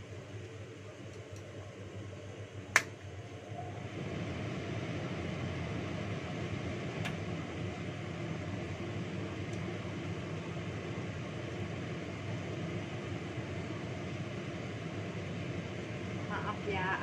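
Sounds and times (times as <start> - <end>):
extractor fan running: 0.0 - 17.0.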